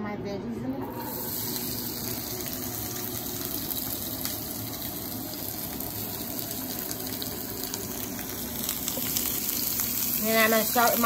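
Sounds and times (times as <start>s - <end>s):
vegetables sizzling in hot oil: 0.9s - 11.0s.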